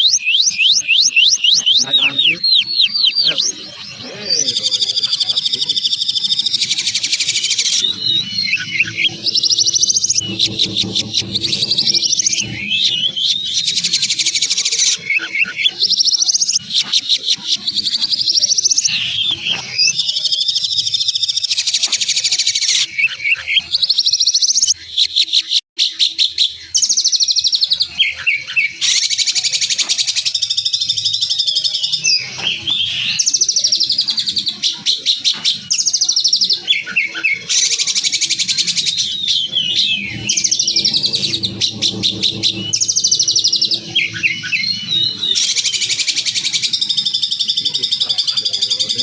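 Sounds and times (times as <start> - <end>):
songbird trills and whistles: 0.0 - 49.0.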